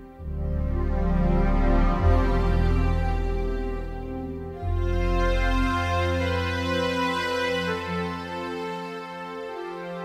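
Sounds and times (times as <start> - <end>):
soft keyboard ballad: 0.0 - 10.0.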